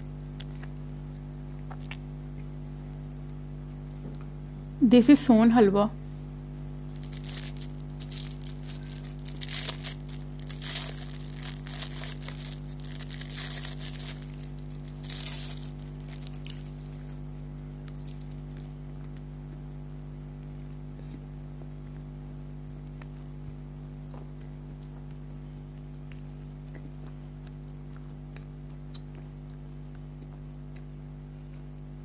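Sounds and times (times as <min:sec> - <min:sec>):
crunching and chewing: 0:00.0 - 0:04.4, 0:06.3 - 0:32.0.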